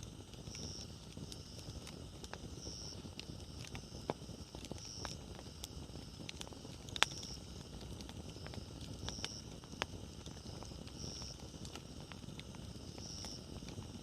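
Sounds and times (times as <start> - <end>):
campfire crackling and popping: 0.0 - 14.0
hiss of burning: 0.0 - 14.0.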